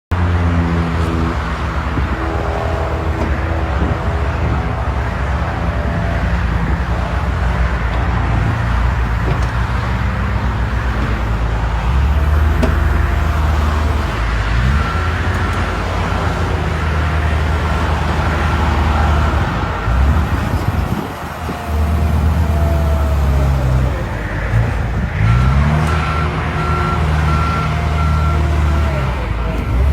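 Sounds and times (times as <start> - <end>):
heavy machinery diesel engines: 0.1 - 29.9.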